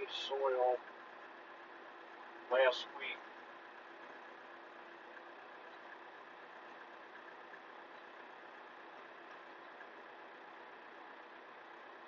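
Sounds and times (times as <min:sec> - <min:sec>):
faint tractor engine idling: 0:00.0 - 0:12.0.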